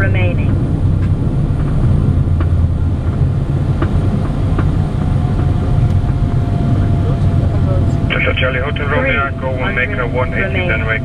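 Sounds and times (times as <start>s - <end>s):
faint steady whine: 0.0s - 11.0s
jet cockpit low rumble: 0.0s - 11.0s.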